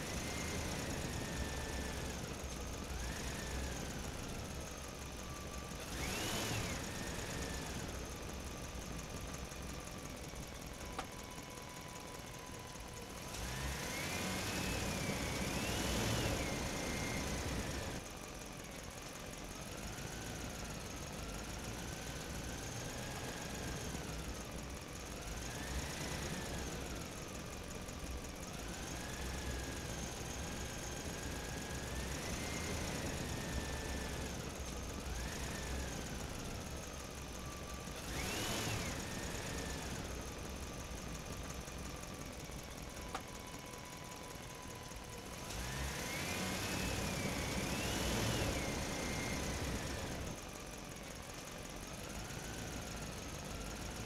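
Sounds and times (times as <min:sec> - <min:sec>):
engine revving with whine: 0:00.0 - 0:18.1, 0:19.5 - 0:54.0.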